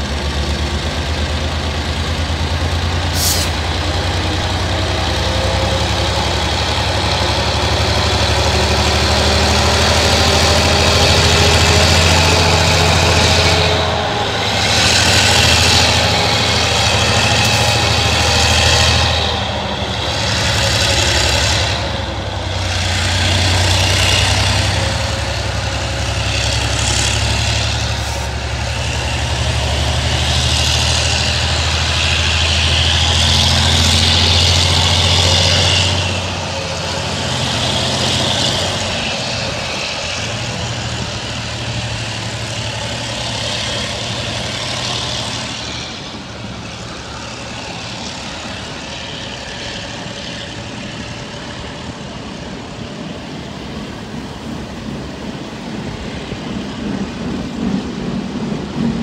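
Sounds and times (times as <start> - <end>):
diesel locomotives droning: 0.0 - 59.0
train wheels rattling on rails: 0.0 - 59.0.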